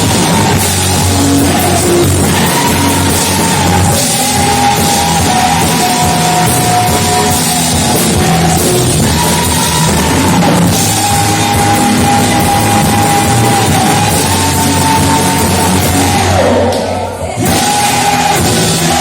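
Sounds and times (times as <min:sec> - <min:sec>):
loud rock band music: 0:00.0 - 0:19.0.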